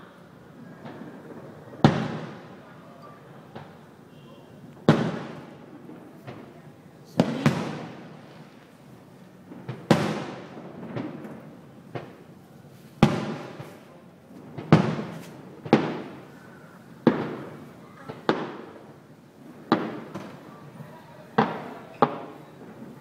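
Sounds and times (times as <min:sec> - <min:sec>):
firework shells booming with echo: 0:00.4 - 0:12.4, 0:13.0 - 0:23.0.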